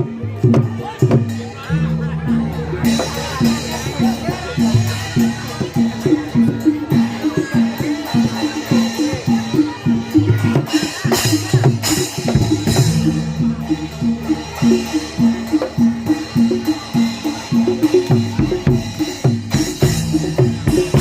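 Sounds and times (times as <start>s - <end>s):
hand drums in fast pattern: 0.0s - 21.0s
repeating tuned percussion notes: 0.0s - 21.0s.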